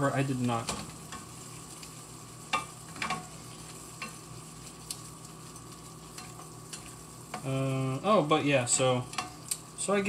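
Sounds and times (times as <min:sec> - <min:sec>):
meat sizzling in a skillet: 0:00.0 - 0:10.0.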